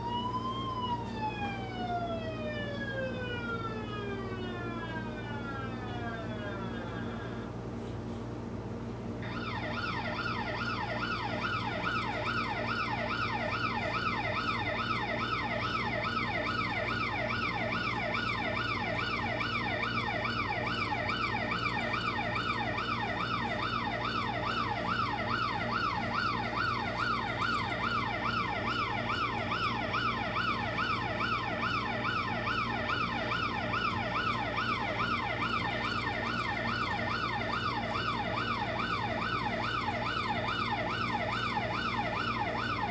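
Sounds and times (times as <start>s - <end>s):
fire engine yelp siren: 0.0s - 7.7s, 9.2s - 42.9s.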